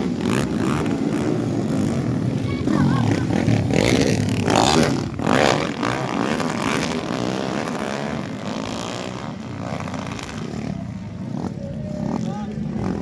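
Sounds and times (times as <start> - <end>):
dirt bike engines revving past: 0.0 - 13.0.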